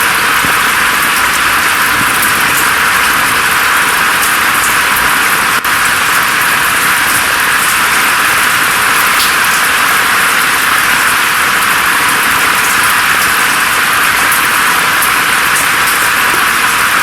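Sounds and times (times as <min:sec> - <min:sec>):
steady rain: 0:00.0 - 0:17.0
raindrop ticks: 0:00.1 - 0:17.0.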